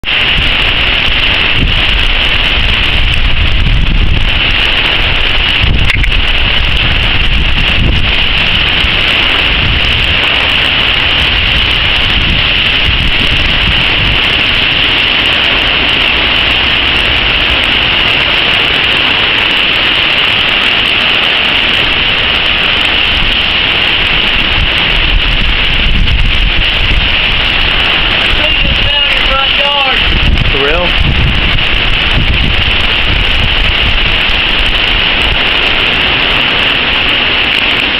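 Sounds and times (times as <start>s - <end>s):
heavy rain hiss: 0.0s - 37.9s
wind buffeting microphone: 0.0s - 37.9s.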